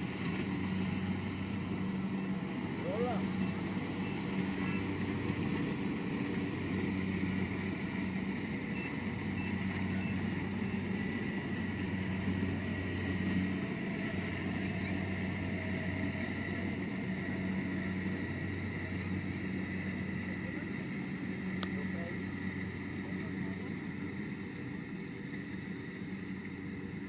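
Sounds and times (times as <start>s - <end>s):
combine harvester engine running: 0.0s - 27.0s.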